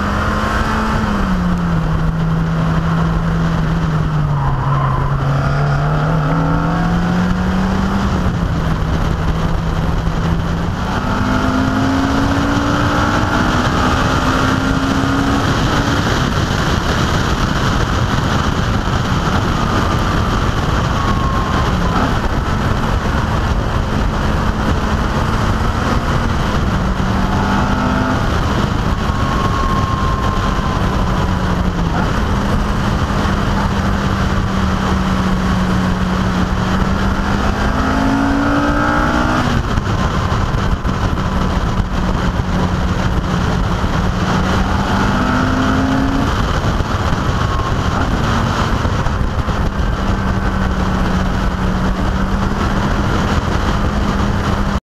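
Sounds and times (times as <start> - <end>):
car engine running: 0.0 - 54.8
wind rush: 0.0 - 54.8.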